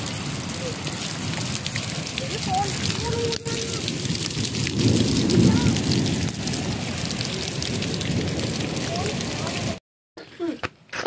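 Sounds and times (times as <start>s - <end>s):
rain hiss with drop crackles: 0.0s - 9.8s.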